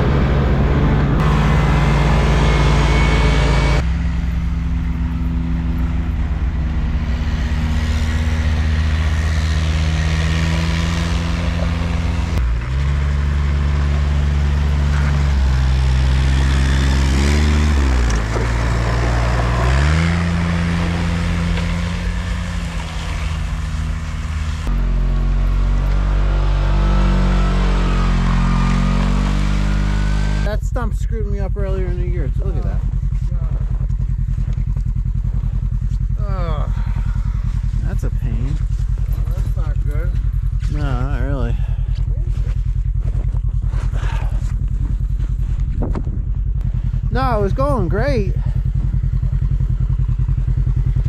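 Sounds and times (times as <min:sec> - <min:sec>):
engine running under load: 0:00.0 - 0:30.8, 0:31.7 - 0:51.0.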